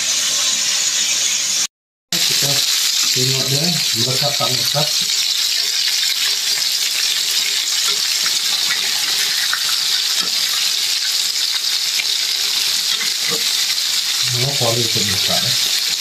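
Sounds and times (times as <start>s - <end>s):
fish deep-frying in hot oil: 0.0s - 16.0s.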